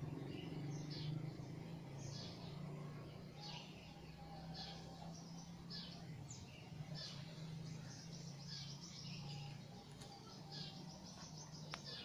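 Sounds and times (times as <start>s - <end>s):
songbirds chirping: 0.0s - 12.0s
steady low hum: 0.0s - 12.0s.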